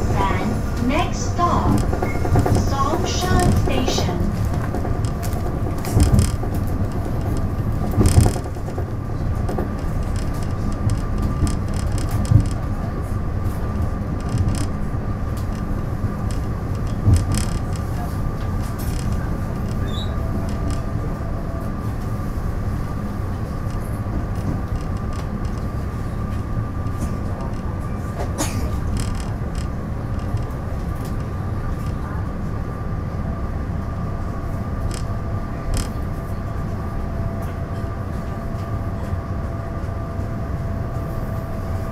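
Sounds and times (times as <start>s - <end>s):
constant high hum: 0.0s - 41.9s
train low rumble: 0.0s - 41.9s.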